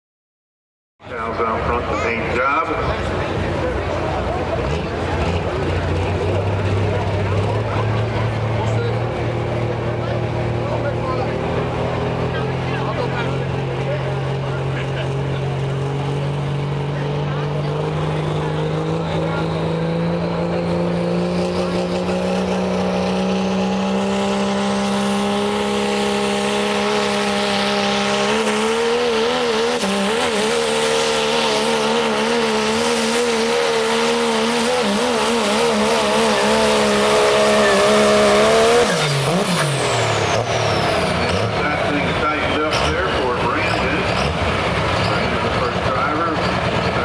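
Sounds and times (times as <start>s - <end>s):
diesel pickup engine revving: 1.0s - 47.0s.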